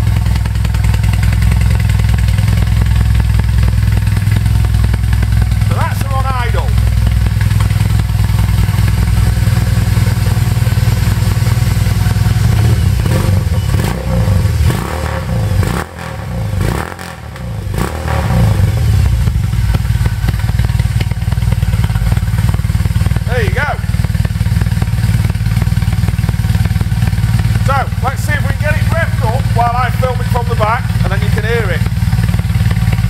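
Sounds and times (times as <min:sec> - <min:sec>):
motorcycle engine revving loudly: 0:00.0 - 0:33.0.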